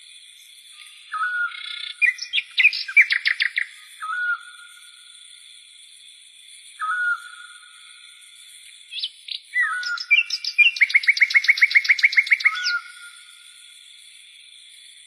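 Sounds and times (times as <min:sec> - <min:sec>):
birds singing whistled calls: 0:00.0 - 0:05.3, 0:06.8 - 0:13.9.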